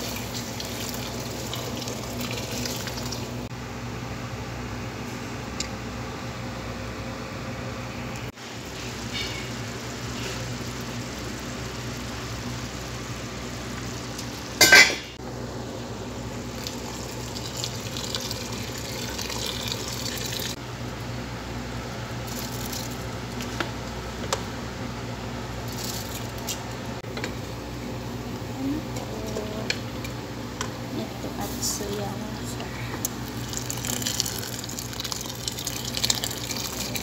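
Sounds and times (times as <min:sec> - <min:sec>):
pot boiling: 0:00.0 - 0:03.5, 0:08.2 - 0:20.6, 0:22.0 - 0:24.4, 0:25.5 - 0:37.0.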